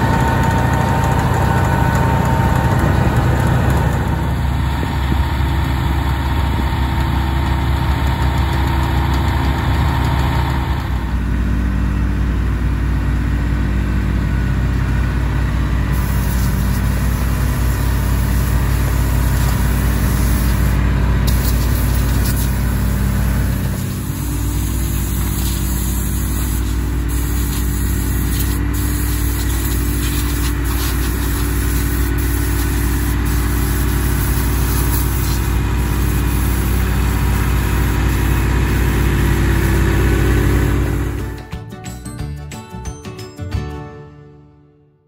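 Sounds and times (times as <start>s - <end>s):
power harrow working soil: 0.0s - 41.5s
tractor diesel engine under load: 0.0s - 41.6s.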